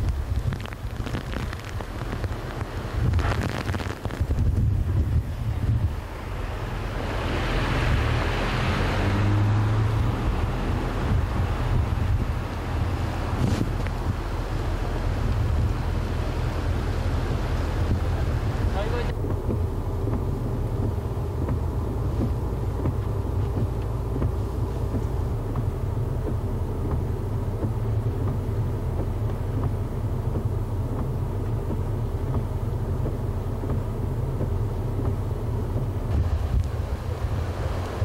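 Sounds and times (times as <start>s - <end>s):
wind buffeting microphone: 0.0s - 31.0s, 34.4s - 38.0s
floodwater rushing: 0.0s - 38.0s.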